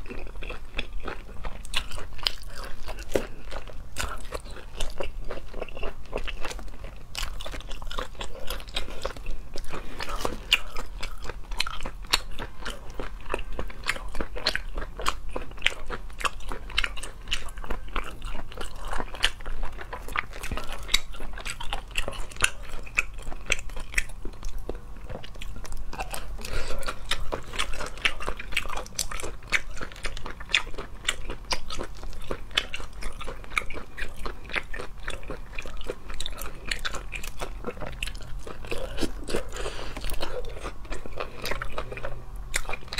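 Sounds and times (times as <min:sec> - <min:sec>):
person chewing: 0:00.0 - 0:42.9.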